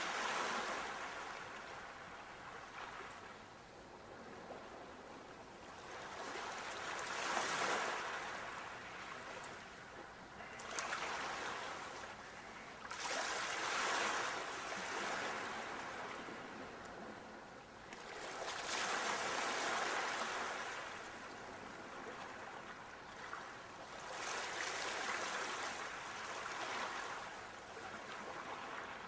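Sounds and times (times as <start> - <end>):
ocean waves breaking on shore: 0.0 - 29.0.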